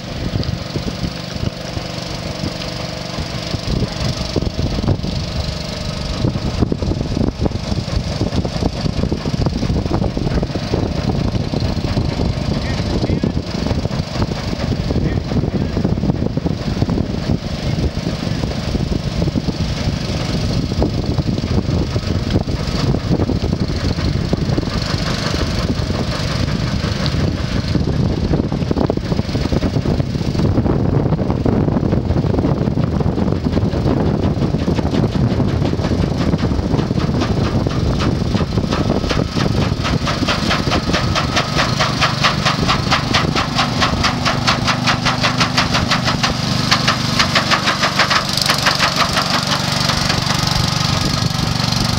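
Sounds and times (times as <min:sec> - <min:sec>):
paddle wheels churning water: 0:00.0 - 0:51.9
small engine running: 0:00.0 - 0:51.9.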